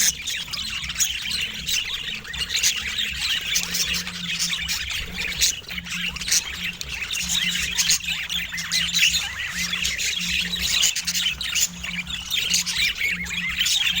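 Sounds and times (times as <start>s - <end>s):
budgerigar chirping and squawking: 0.0s - 14.0s.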